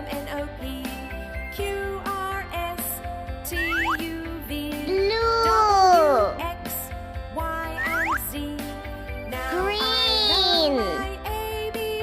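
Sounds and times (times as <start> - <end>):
bright instrumental children's music: 0.0 - 12.0.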